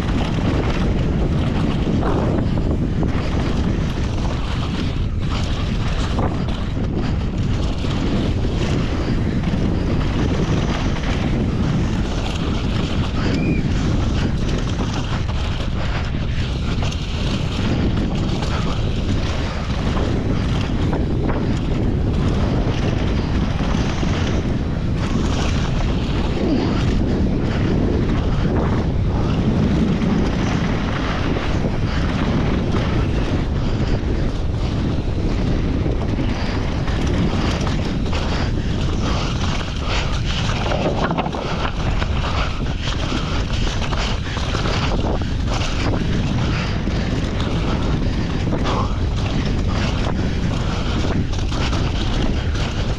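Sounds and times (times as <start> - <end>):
bike rumbling and clattering: 0.0 - 52.9
wind buffeting microphone: 0.0 - 52.9.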